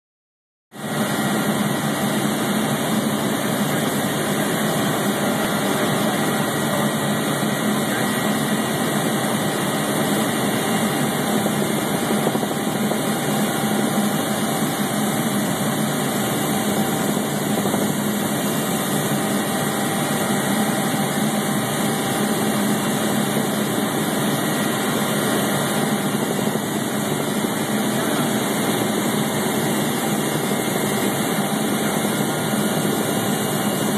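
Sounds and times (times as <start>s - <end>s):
small aircraft engine in cabin: 0.8s - 33.9s.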